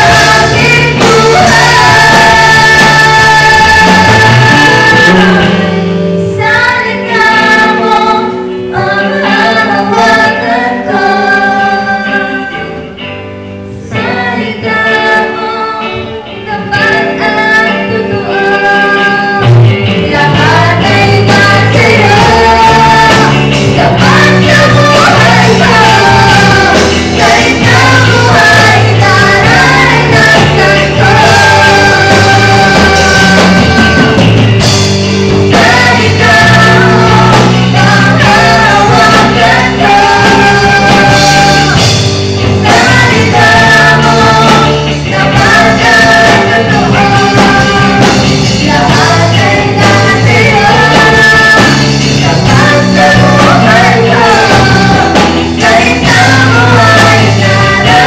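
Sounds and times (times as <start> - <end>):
vocalists singing worship song: 0.0 - 58.0.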